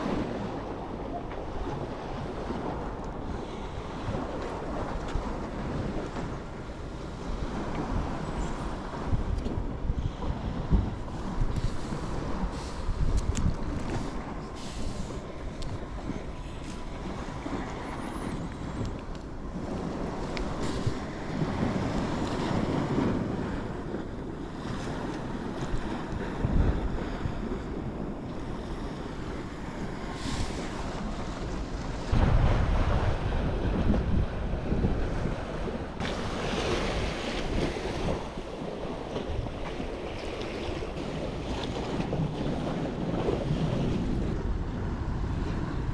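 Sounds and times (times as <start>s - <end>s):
sea waves washing in: 0.0s - 45.9s
wind buffeting microphone: 0.0s - 45.9s.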